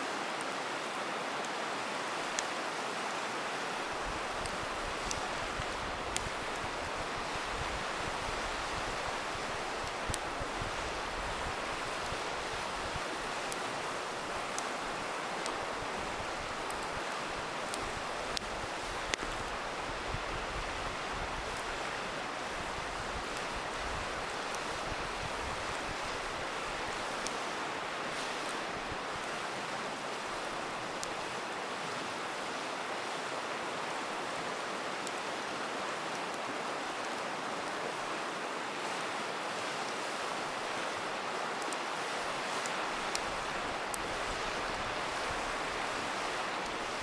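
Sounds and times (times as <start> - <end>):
river water rushing: 0.0 - 47.0
campfire crackling: 0.1 - 47.0.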